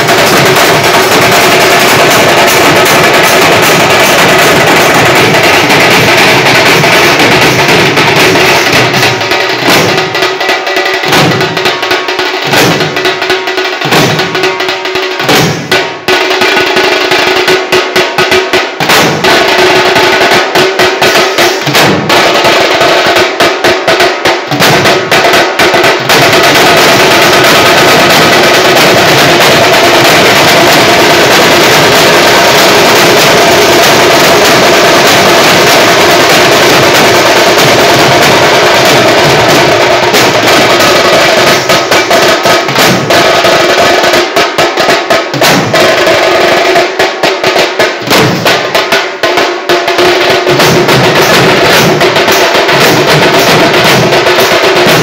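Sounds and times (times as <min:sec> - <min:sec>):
marching drums: 0:00.0 - 0:55.0.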